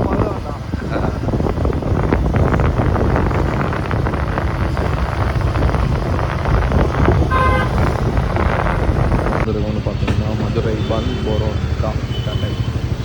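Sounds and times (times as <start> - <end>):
motorcycle rumble: 0.0 - 13.0
wind buffeting microphone: 0.0 - 13.0.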